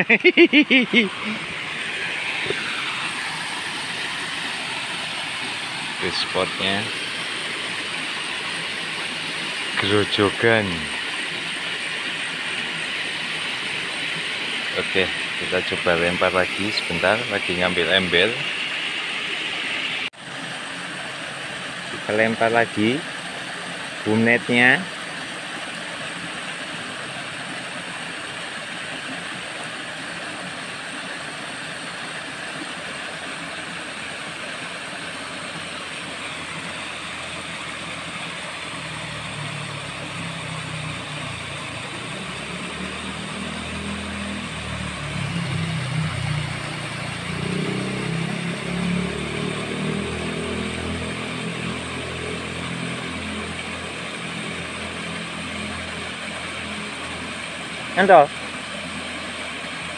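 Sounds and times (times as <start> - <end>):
water rushing at a cascade: 0.0 - 59.9.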